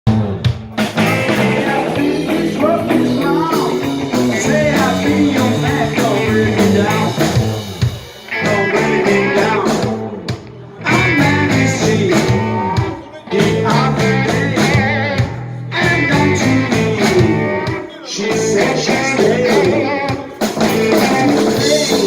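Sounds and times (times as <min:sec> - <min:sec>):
rock band playing: 0:00.1 - 0:22.0.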